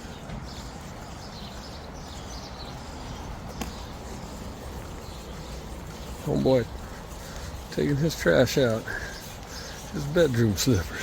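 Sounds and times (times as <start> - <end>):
birds chirping faintly: 0.0 - 11.0
low outdoor background noise: 0.0 - 11.0.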